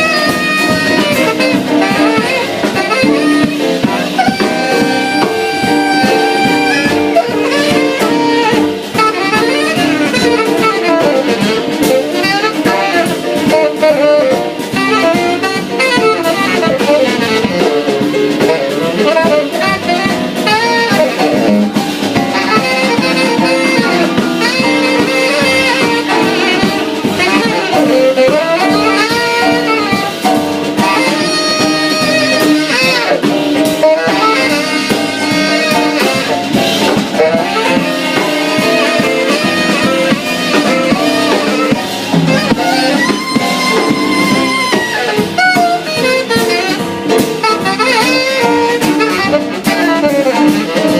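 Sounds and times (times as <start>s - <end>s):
drum kit: 0.0s - 50.9s
jazz band playing: 0.0s - 50.9s
saxophone lead: 0.0s - 50.9s.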